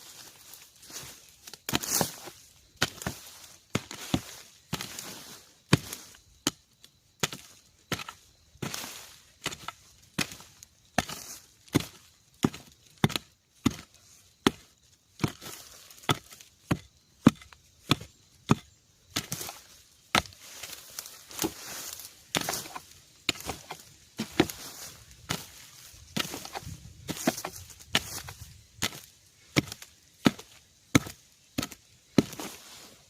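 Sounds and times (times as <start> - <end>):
hand tool chopping bamboo: 1.0 - 32.7.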